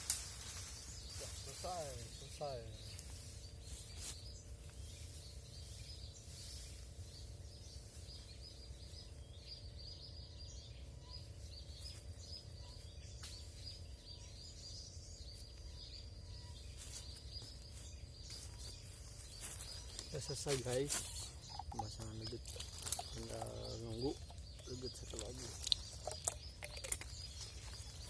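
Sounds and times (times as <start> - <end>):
small bird chirping: 0.0 - 28.0.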